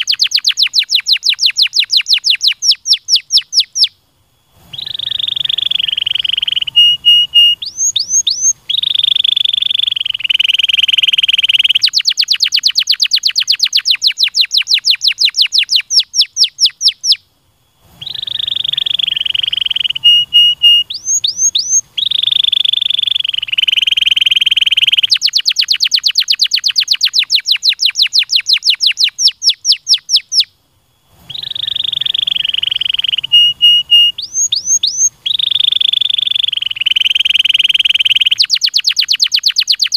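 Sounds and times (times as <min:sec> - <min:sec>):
canary singing: 0:00.0 - 0:04.0, 0:04.6 - 0:17.2, 0:17.9 - 0:39.9.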